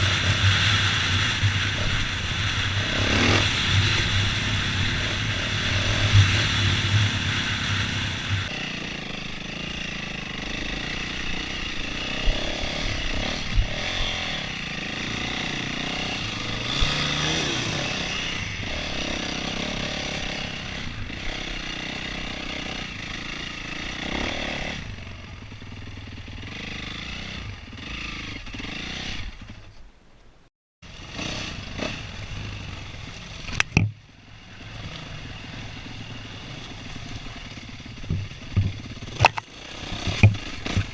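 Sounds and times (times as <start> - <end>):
dirt bike engine revving: 0.0 - 29.6, 30.8 - 40.9.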